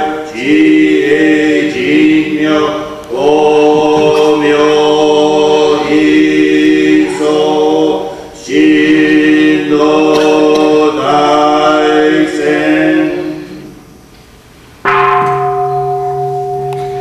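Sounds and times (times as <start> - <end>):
men chanting in unison: 0.0 - 13.8.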